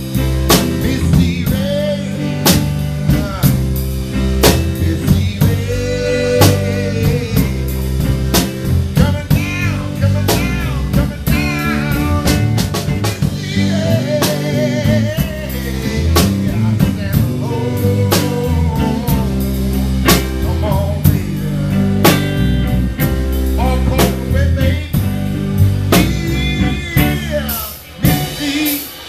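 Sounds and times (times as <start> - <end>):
guitar melody with bent notes: 0.0 - 28.5
bass line: 0.0 - 29.0
drum kit: 0.0 - 29.0.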